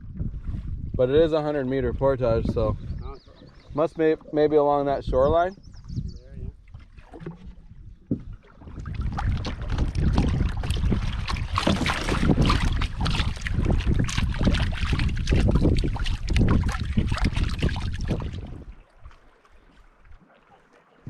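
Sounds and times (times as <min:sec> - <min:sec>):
wind buffeting microphone: 0:00.0 - 0:19.2
water splashing around canoe: 0:00.0 - 0:21.0.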